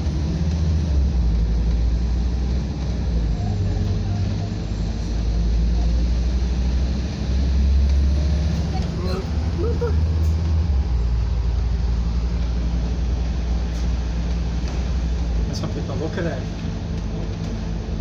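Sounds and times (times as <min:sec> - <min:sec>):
bus engine running: 0:00.0 - 0:18.0
road noise: 0:00.0 - 0:18.0.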